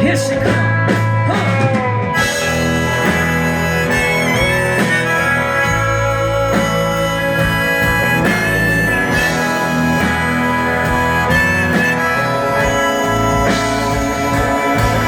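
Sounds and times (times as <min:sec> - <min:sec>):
strummed guitars: 0:00.0 - 0:15.0
lead melody of held notes: 0:02.0 - 0:15.0.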